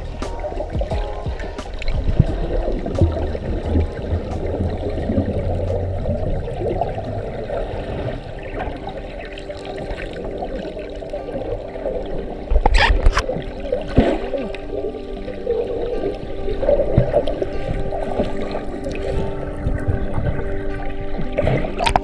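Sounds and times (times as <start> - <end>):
faint gurgling: 0.0 - 22.0
muffled underwater rush: 0.0 - 22.0.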